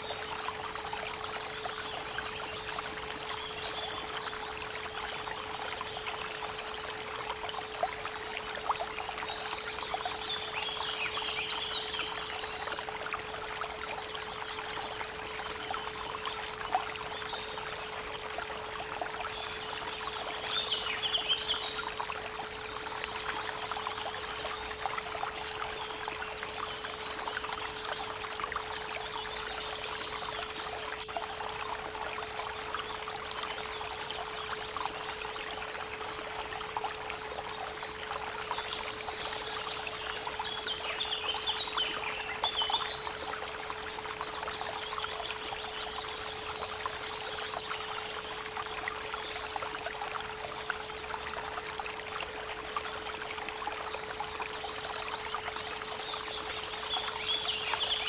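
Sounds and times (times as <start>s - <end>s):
creek water trickling: 0.0s - 58.0s.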